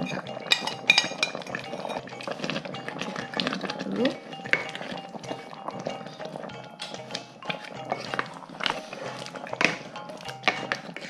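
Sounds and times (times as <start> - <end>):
background music with steady tones: 0.0 - 11.0
wooden spatula scraping metal pot: 0.0 - 11.0.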